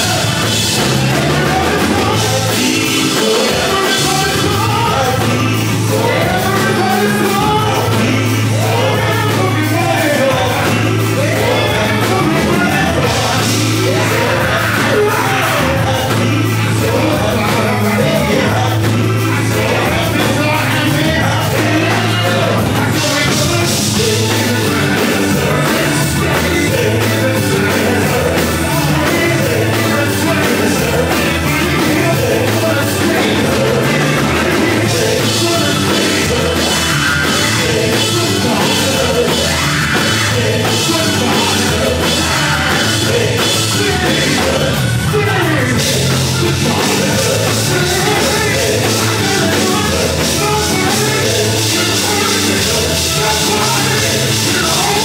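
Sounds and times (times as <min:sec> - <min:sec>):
drum kit with cymbals: 0:00.0 - 0:55.0
electric bass: 0:00.0 - 0:55.0
keyboards and organ: 0:00.0 - 0:55.0.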